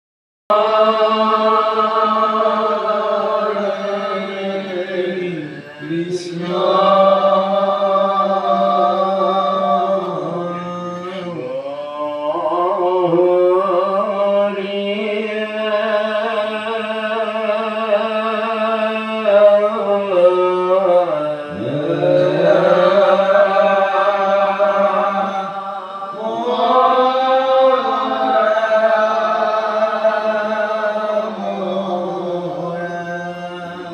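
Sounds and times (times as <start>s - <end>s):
voices singing slow chant: 0.5s - 33.9s.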